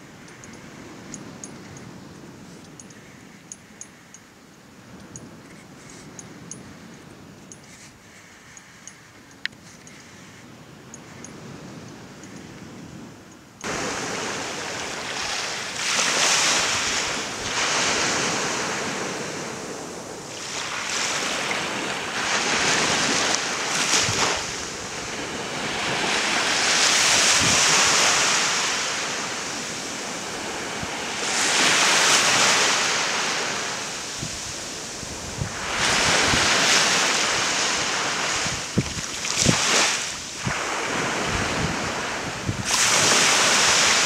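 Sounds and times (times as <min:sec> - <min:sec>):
waves breaking on a sandy beach: 0:00.0 - 0:44.0.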